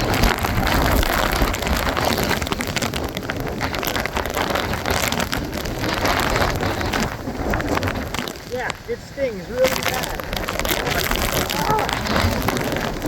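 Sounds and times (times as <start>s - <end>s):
heavy driving rain: 0.0s - 13.0s
wind buffeting microphone: 0.0s - 13.0s.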